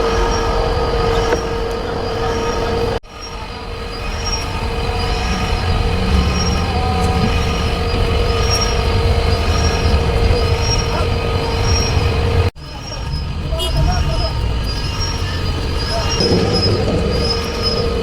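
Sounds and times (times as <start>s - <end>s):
truck engine whining: 0.0s - 18.0s.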